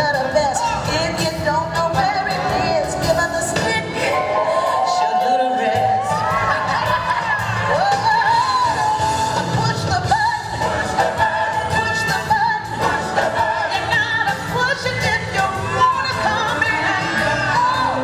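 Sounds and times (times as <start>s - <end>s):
pop song with sung vocals: 0.0s - 18.0s.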